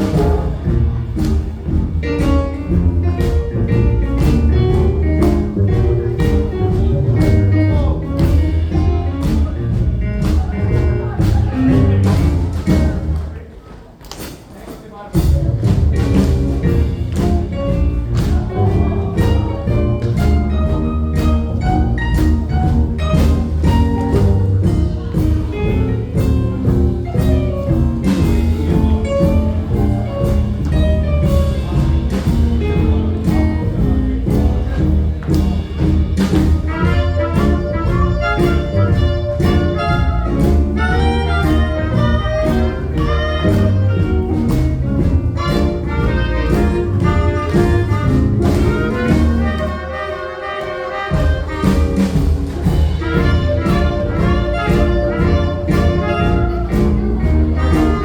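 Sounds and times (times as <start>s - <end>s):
horns playing jazz: 0.0s - 13.4s, 15.2s - 58.0s
walking bass line: 0.0s - 13.4s, 15.2s - 58.0s
drums: 0.0s - 58.0s.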